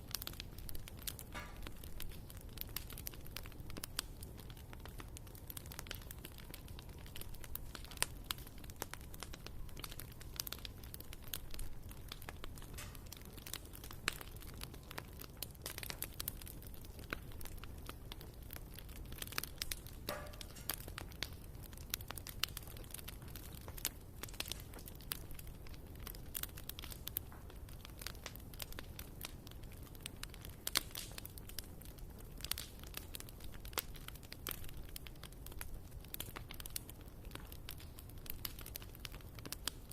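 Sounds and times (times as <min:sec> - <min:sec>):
fire low rumble: 0:00.0 - 0:39.9
wood fire crackling: 0:00.0 - 0:39.9.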